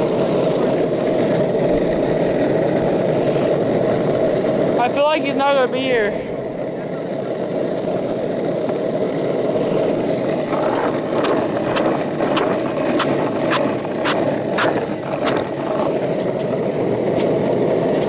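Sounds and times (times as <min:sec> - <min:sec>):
skateboard wheels rolling on asphalt: 0:00.0 - 0:18.0.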